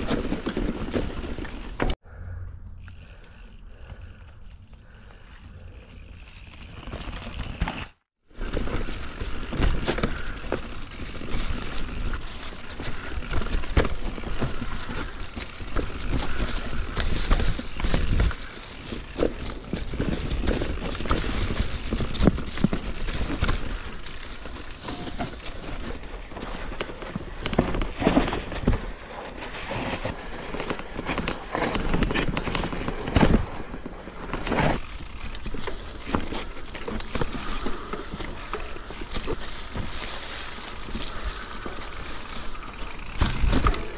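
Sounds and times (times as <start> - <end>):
bike rattles and knocks: 0.0 - 2.0, 2.8 - 43.9
bike tyres rumbling over rocks: 0.0 - 2.0, 5.9 - 43.9.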